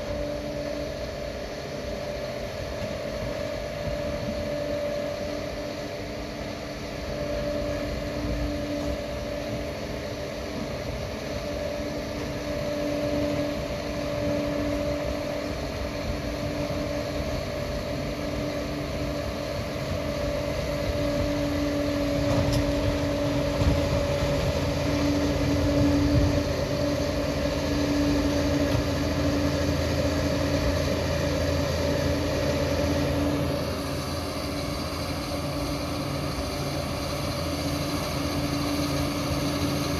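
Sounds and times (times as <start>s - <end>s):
engine humming: 6.8s - 39.9s.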